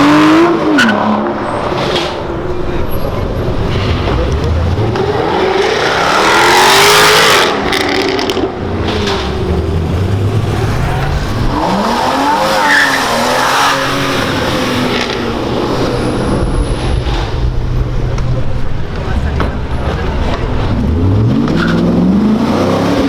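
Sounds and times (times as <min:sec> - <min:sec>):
engine revving: 0:00.0 - 0:17.7, 0:19.2 - 0:23.0
sports car engines rumbling: 0:00.0 - 0:23.0.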